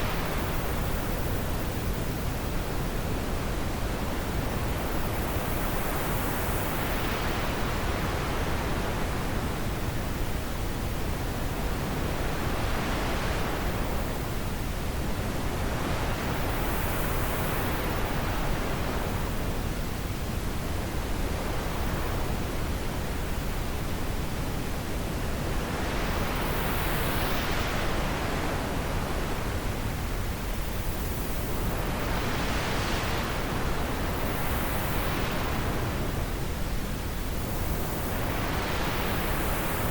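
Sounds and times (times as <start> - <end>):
steady wind hiss: 0.0 - 39.9.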